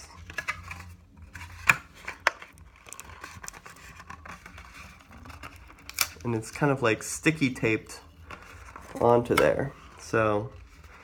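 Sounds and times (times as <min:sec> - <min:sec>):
paper and plastic bag rustling: 0:00.0 - 0:11.0.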